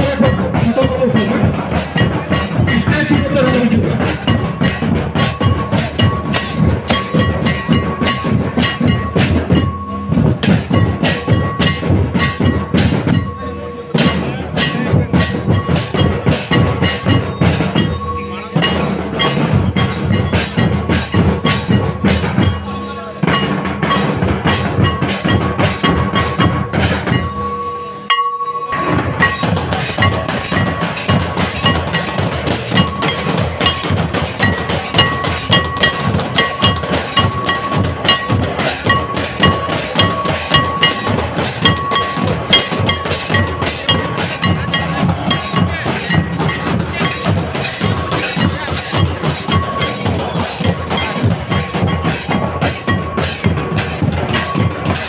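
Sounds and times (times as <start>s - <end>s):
folk drums beaten fast: 0.0s - 55.0s.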